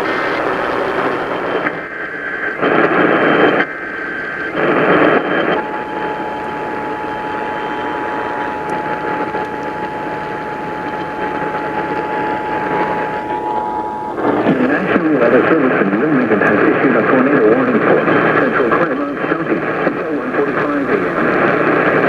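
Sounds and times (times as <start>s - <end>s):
steady attention tone: 0.0s - 2.4s, 3.1s - 22.0s
harsh data bursts: 0.0s - 22.0s
radio hiss: 0.0s - 22.0s.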